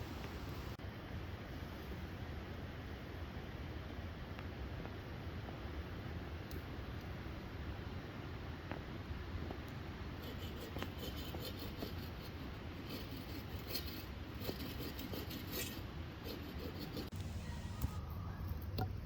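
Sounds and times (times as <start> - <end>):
low rumble of wind: 0.0 - 19.0.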